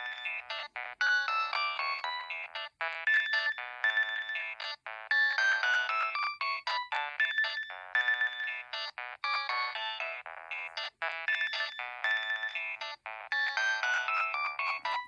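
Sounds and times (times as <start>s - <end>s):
mobile phone ringtone melody: 0.0s - 15.0s.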